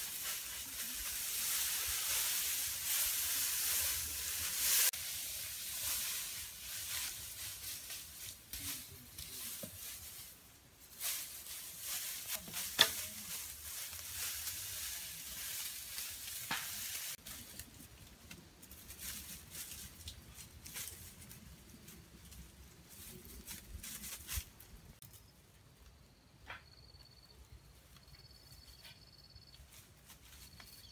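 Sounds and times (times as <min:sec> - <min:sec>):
dry grass rustling: 0:00.0 - 0:25.6, 0:27.8 - 0:30.9.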